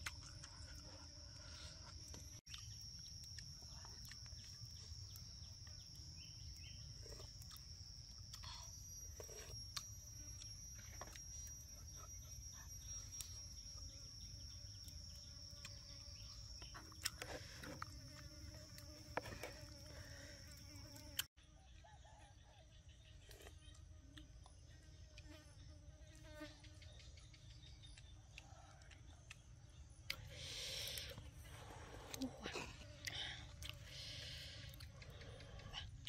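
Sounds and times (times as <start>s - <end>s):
insects droning: 0.0s - 23.0s, 23.6s - 36.0s.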